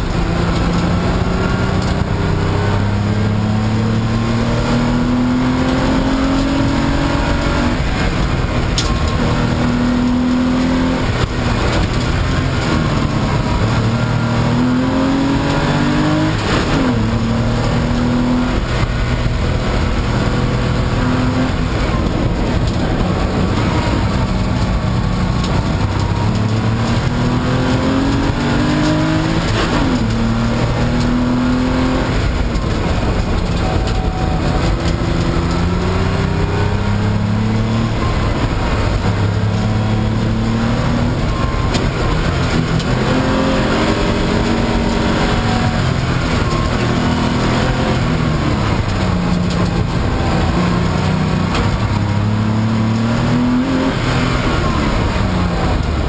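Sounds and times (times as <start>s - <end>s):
race car engine revving: 0.0s - 56.0s
steady rushing noise: 0.0s - 56.0s.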